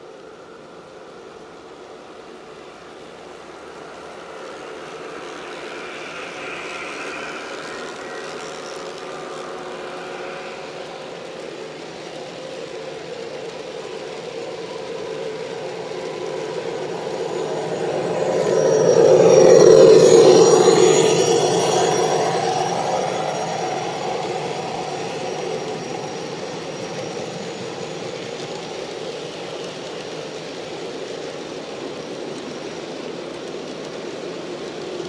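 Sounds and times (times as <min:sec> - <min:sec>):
model locomotive high whine: 0:00.0 - 0:35.0
model train cars rolling: 0:00.6 - 0:35.0.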